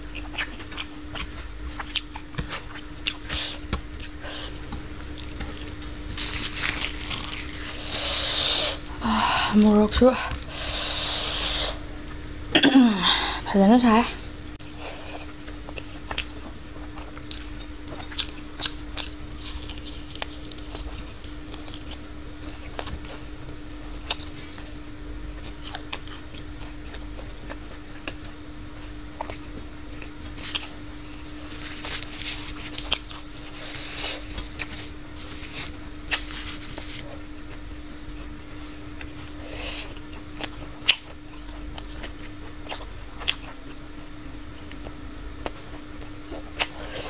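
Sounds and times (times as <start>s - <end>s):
person chewing food: 0.0s - 9.0s, 14.5s - 24.8s, 25.4s - 43.8s, 44.6s - 47.0s
faint low hum: 0.0s - 47.0s.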